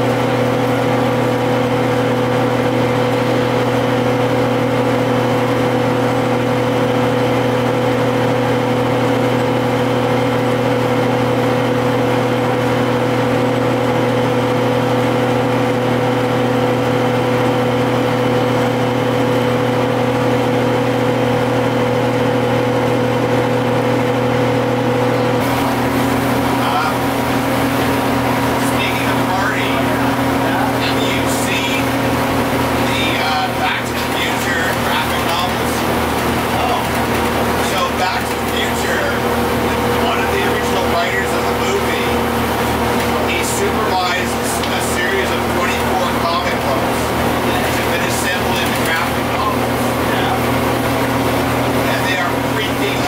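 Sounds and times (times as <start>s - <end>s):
bus engine drone: 0.0s - 53.0s
drivetrain whine: 0.0s - 53.0s
road noise: 0.0s - 53.0s.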